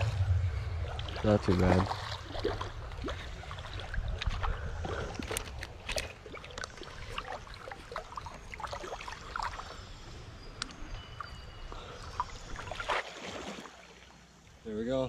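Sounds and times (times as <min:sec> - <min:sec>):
water splashing and sloshing: 0:00.0 - 0:14.6.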